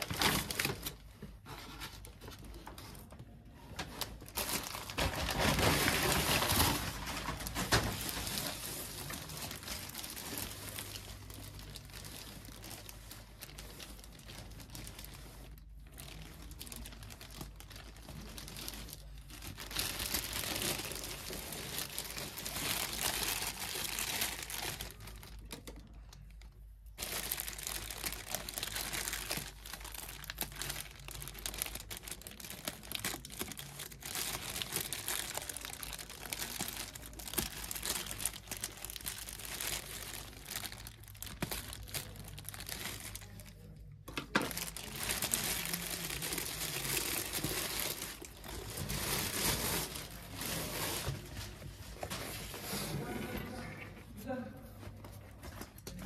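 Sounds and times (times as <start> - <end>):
plastic bag crinkling: 0.0 - 53.8.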